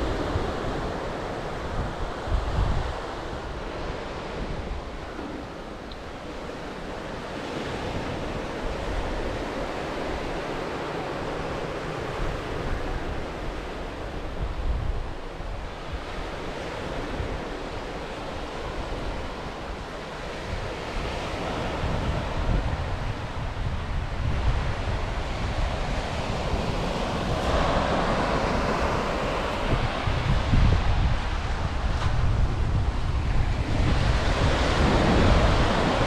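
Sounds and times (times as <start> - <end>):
ocean surf on sandy beach: 0.0 - 36.0
wind buffeting microphone: 0.0 - 36.0.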